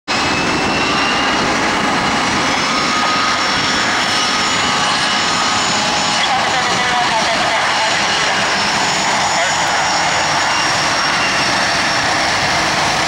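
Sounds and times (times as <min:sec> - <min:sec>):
jet engines roaring with whine: 0:00.1 - 0:13.0.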